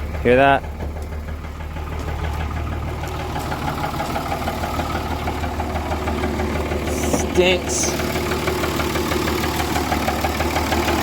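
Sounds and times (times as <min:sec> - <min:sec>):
diesel engine idling with knock: 0:00.0 - 0:11.0.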